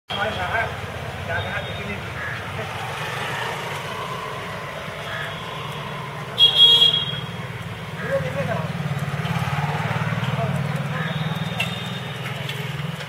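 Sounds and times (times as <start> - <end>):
low traffic rumble: 0.1 - 13.0.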